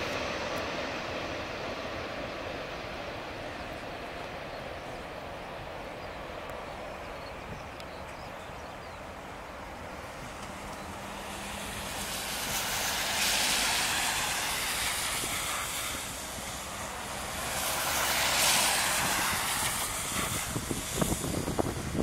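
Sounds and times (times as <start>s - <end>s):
jet engine hiss: 0.0s - 22.0s
wind buffeting microphone: 0.0s - 22.0s.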